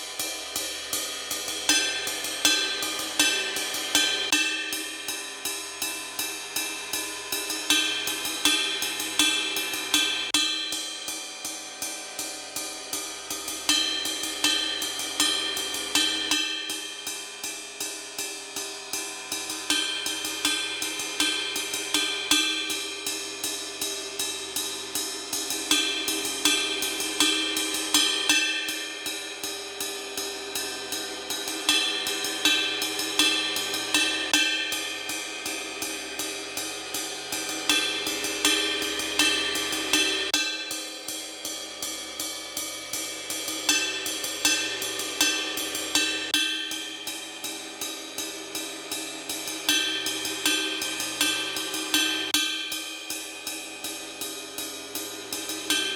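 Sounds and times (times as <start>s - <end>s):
hi-hat and cymbal strokes: 0.0s - 55.9s.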